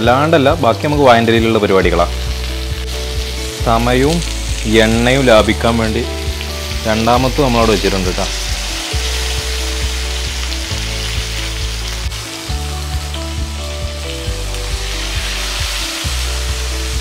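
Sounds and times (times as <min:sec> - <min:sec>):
background music bass notes: 0:00.0 - 0:17.0
fish sizzling in oil: 0:00.0 - 0:17.0.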